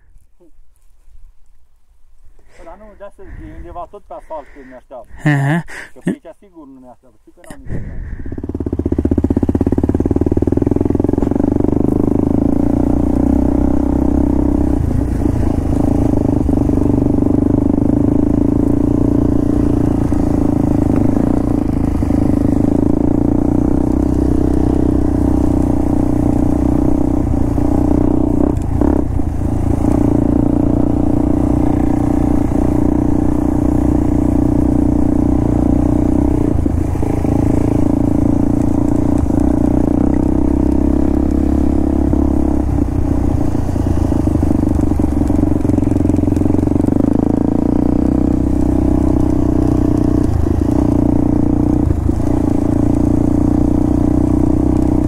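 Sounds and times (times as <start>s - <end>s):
vehicle engine droning: 2.4s - 55.0s.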